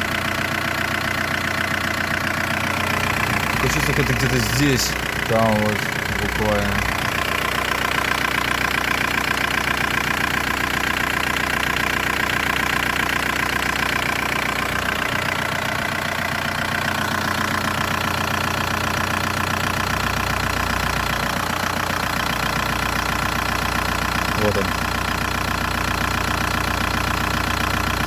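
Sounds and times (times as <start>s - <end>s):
diesel engine idling: 0.0s - 28.0s
dull engine knocking: 0.0s - 28.0s.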